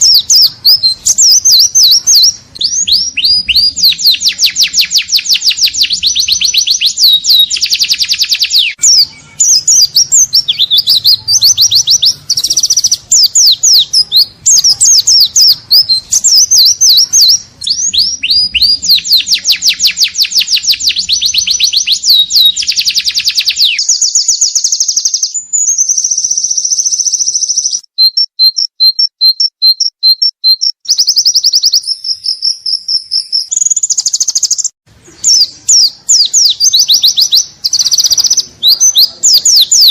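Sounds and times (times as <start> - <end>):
bird singing rapid high chirps: 0.0 - 39.9.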